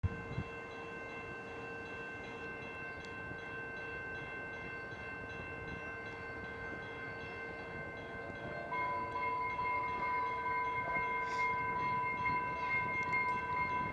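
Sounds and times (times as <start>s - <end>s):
commuter train humming: 0.0s - 13.9s.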